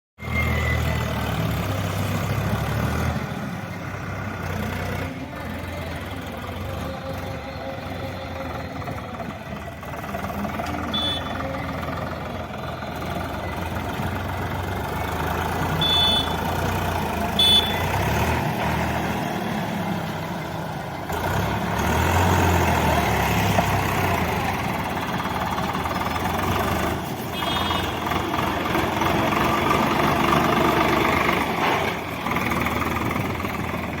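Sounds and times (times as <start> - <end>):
diesel tractor engine running: 0.2 - 34.0.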